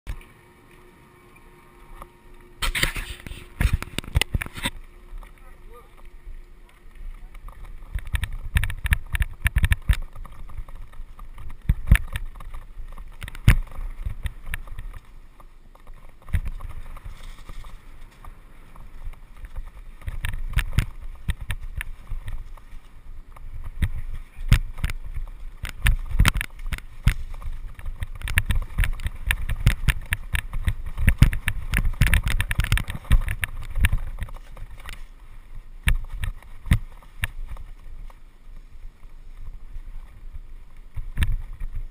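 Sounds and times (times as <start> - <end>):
bike rattling over bumps: 2.5 - 41.9.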